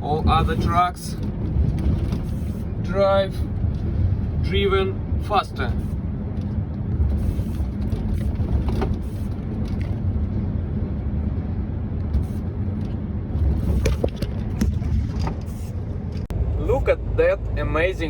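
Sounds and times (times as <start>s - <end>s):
truck diesel engine rumbling: 0.0s - 18.0s.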